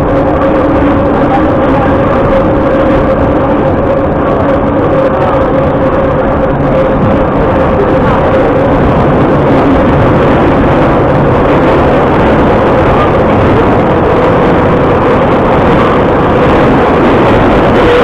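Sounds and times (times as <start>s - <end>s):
faint steady whine: 0.0s - 18.0s
train wheels rumbling on rails: 0.0s - 18.0s.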